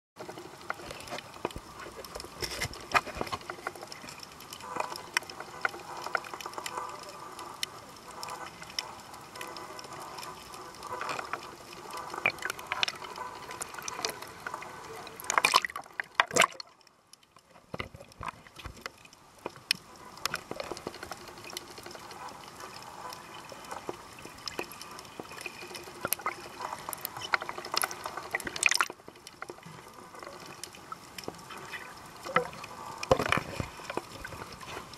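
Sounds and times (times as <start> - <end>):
underwater bubbling and sloshing: 0.2 - 34.9
underwater clicks and crackles: 0.2 - 34.9.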